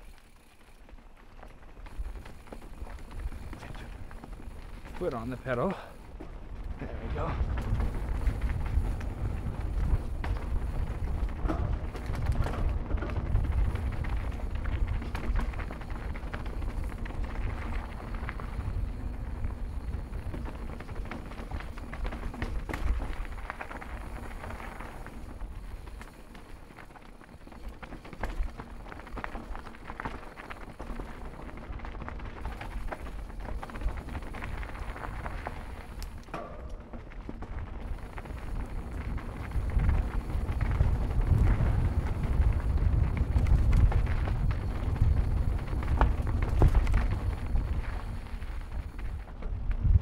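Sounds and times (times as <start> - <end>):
bike rattling over bumps: 0.0 - 50.0
bike tyres on dirt: 0.0 - 50.0
wind rumble on microphone: 5.9 - 26.8, 27.4 - 50.0.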